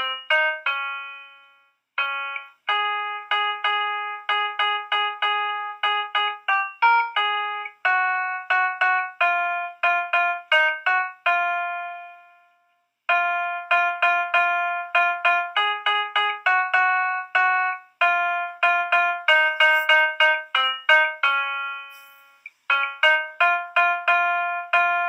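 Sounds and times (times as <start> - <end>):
keyboard chords: 0.0 - 25.0.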